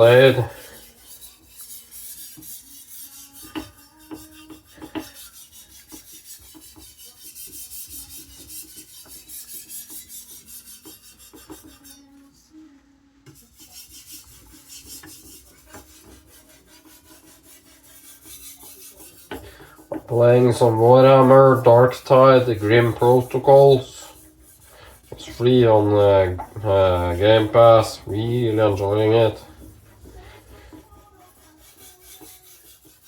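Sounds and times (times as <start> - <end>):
knife scraping on whetstone: 0.0 - 12.2, 13.3 - 33.0.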